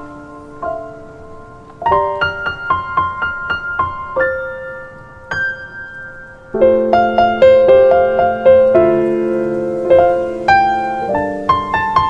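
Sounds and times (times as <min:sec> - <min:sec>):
solo piano piece: 0:00.0 - 0:12.0.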